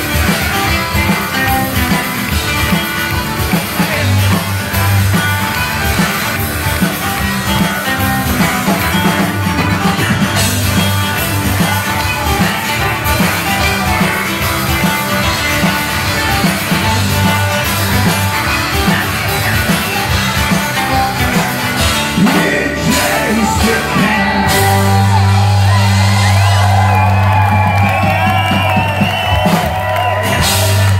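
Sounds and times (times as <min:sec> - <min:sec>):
busy drumming: 0:00.0 - 0:30.9
live rock band: 0:00.0 - 0:30.9.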